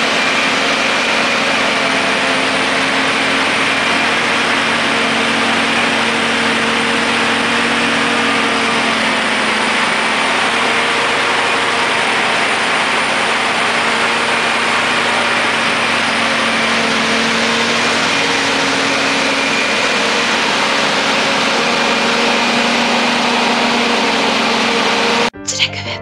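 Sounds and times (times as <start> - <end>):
engine hum: 0.0 - 25.3
harvester machine noise: 0.0 - 25.9.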